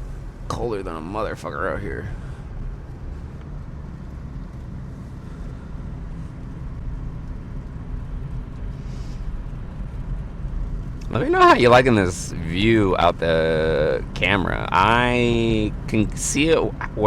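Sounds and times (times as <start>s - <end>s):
engine and road rumble in car: 0.0s - 17.0s.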